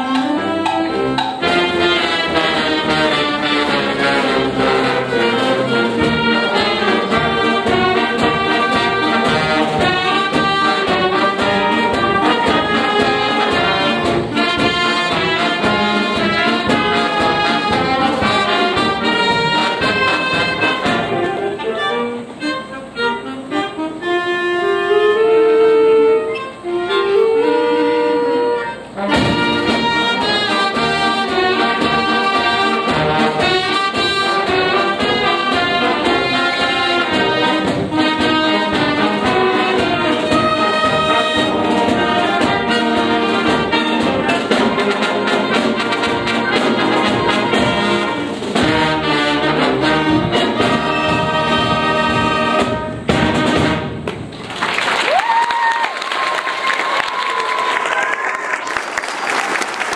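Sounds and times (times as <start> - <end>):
concert band playing: 0.0 - 59.9.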